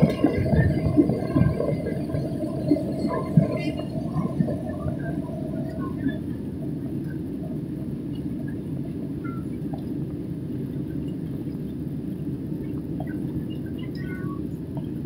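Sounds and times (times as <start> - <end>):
airplane cabin roar: 0.0 - 15.0.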